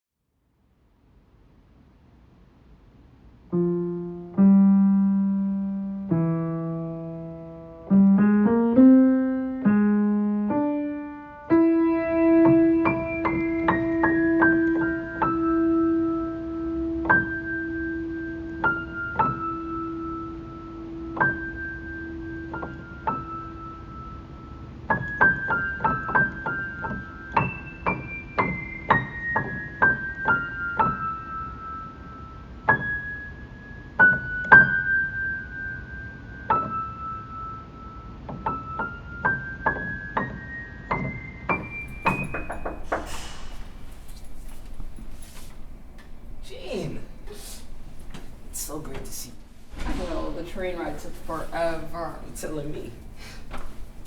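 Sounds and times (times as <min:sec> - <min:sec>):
solo piano music: 0:03.5 - 0:54.0.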